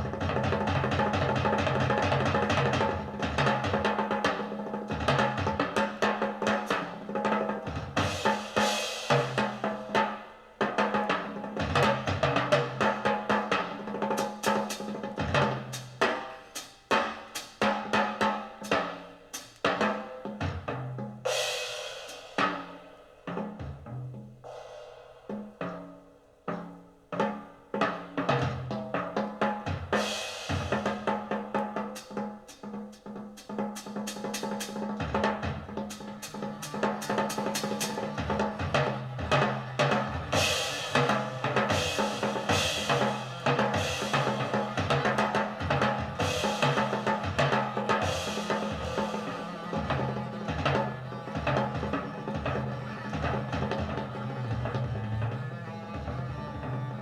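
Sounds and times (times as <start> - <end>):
snare and tom drumming: 0.0 - 57.0.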